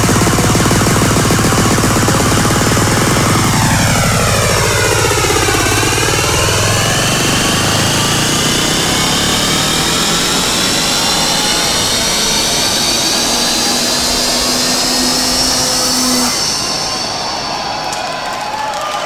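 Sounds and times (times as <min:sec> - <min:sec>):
electronic trance music: 0:00.0 - 0:19.0
rising whoosh of noise: 0:00.0 - 0:19.0.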